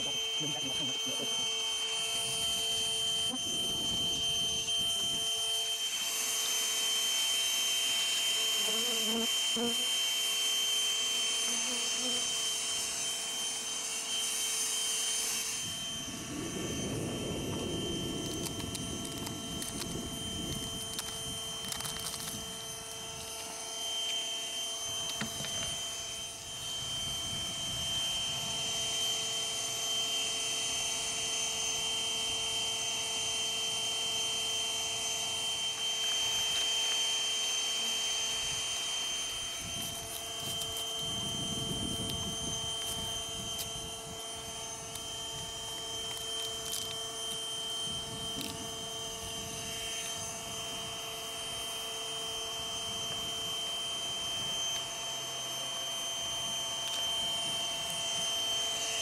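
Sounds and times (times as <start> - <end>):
vacuum motor whining: 0.0 - 59.0.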